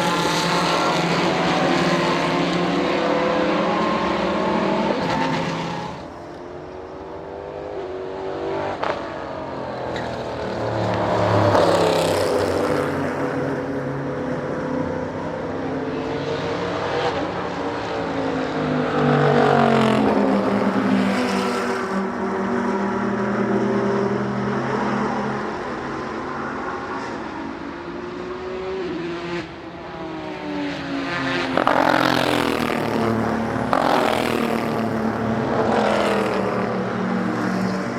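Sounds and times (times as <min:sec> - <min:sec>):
race cars passing at speed: 0:00.0 - 0:37.9.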